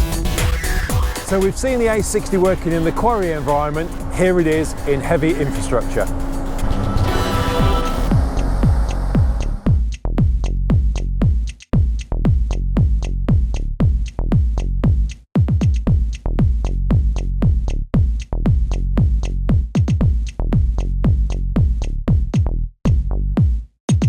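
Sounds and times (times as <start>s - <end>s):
electronic music with synth kicks: 0.0s - 24.0s.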